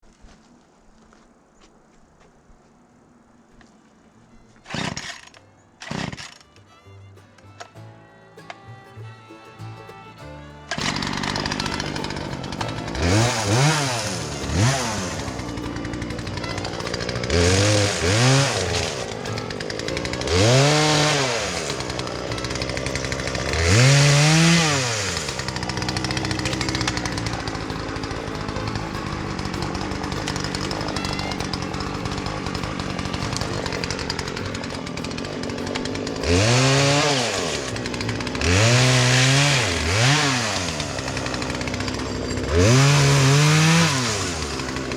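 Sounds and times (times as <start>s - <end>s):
chainsaw idling and revving: 4.6s - 6.5s, 10.5s - 44.9s.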